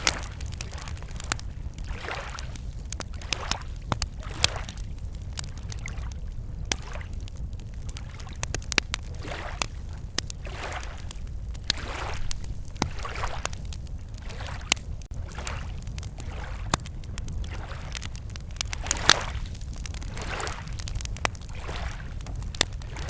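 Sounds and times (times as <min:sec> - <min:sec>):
campfire crackling: 0:00.0 - 0:23.0
waves lapping against shore: 0:00.0 - 0:23.0.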